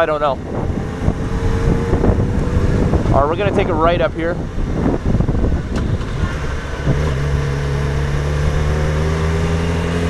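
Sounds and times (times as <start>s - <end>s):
motorcycle engine drone: 0.0s - 10.0s
wind noise: 0.0s - 10.0s.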